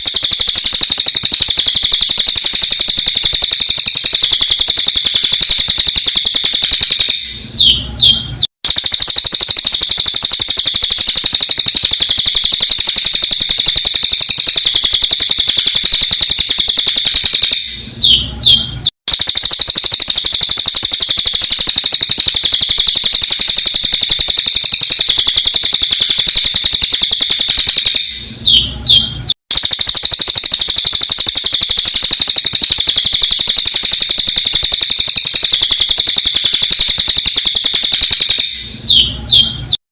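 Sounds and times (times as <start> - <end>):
bird chattering trill: 0.0 - 39.8.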